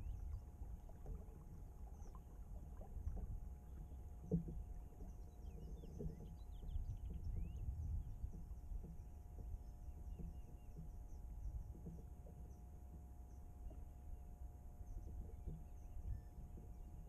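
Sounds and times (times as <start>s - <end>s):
low steady rumble: 0.0s - 17.0s
water lapping against hull: 0.0s - 17.0s.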